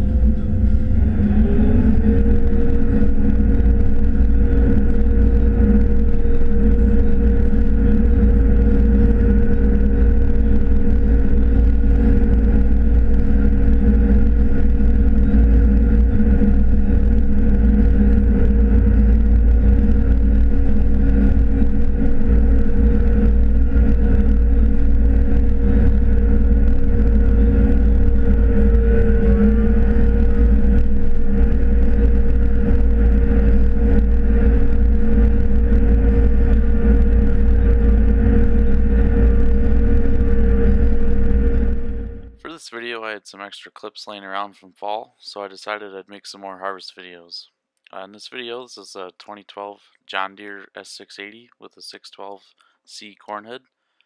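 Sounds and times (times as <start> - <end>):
combine harvester low rumble: 0.0 - 44.4
mid-pitched machine whine: 0.0 - 44.6
faint whine: 0.0 - 53.6.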